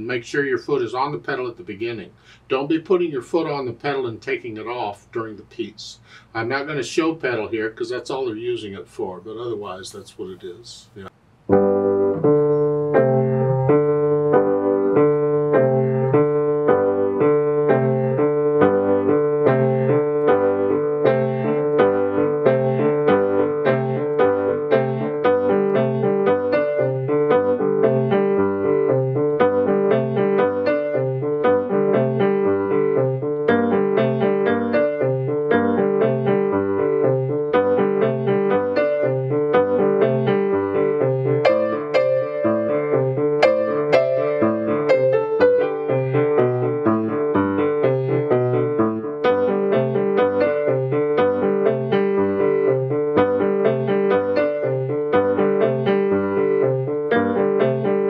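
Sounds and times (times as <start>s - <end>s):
grand piano playing: 11.5s - 58.0s.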